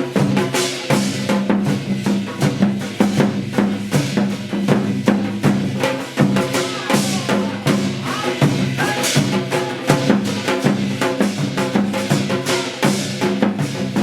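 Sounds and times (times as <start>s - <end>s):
fast drum strokes: 0.0s - 14.0s.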